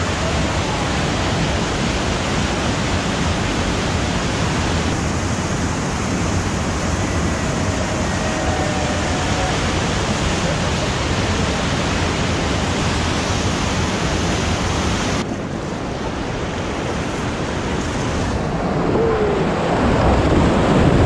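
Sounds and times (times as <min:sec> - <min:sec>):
whitewater rapids rushing: 0:00.0 - 0:21.0.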